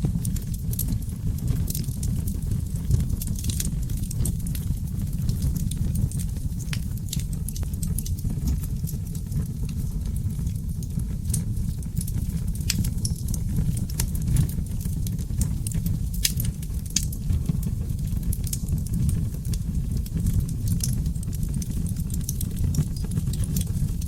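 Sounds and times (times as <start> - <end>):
low roar of flames: 0.0 - 24.0
wood crackling and popping: 0.0 - 24.0.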